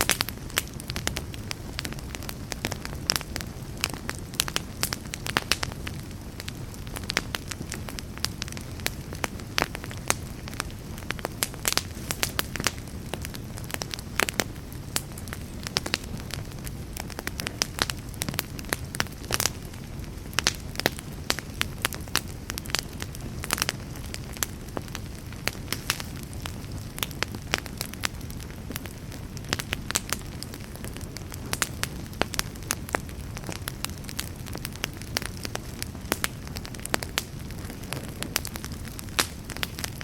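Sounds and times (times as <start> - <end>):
rush of flames: 0.0 - 40.0
wood crackling and popping: 0.0 - 40.0.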